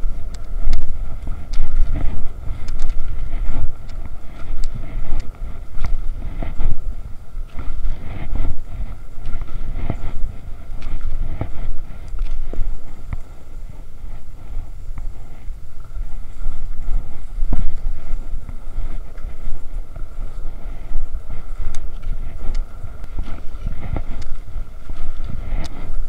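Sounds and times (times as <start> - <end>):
skis and poles clicking: 0.0 - 26.0
wind buffeting microphone: 0.0 - 26.0.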